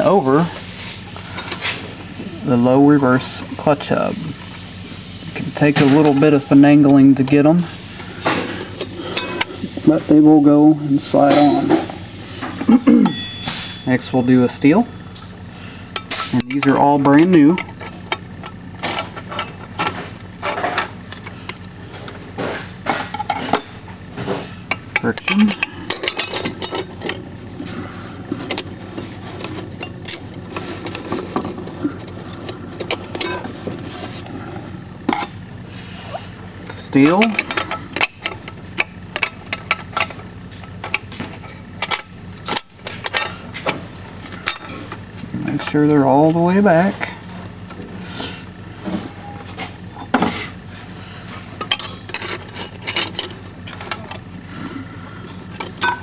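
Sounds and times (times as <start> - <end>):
metal clutch plates clinking: 8.2 - 35.6, 36.5 - 56.0.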